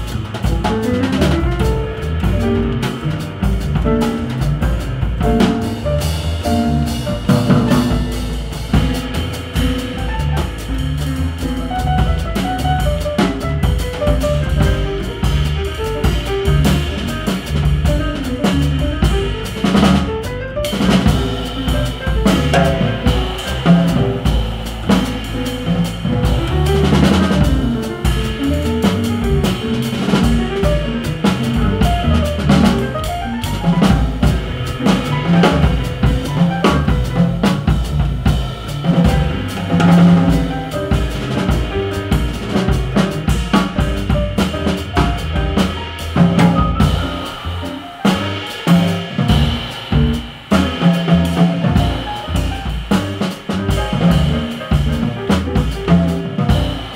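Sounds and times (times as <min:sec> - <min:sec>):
drum kit hits: 0:00.0 - 0:56.9
jazz piano trio playing: 0:00.0 - 0:56.9.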